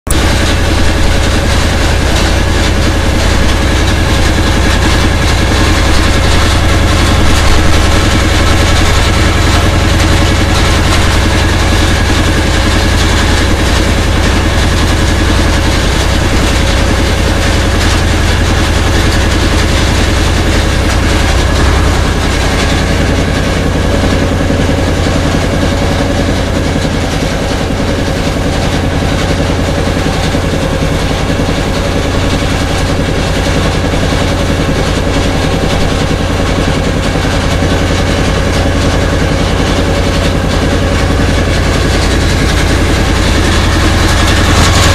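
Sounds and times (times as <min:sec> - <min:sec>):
boat engine humming: 0:00.1 - 0:44.9.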